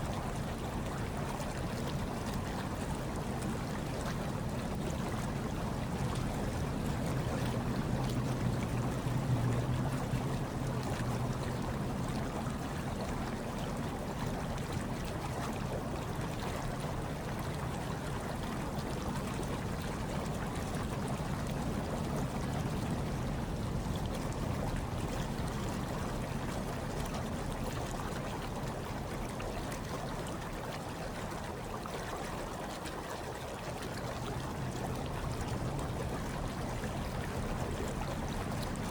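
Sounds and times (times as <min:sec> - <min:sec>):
hot tub water bubbling: 0:00.0 - 0:38.9
low steady hum: 0:00.0 - 0:38.9.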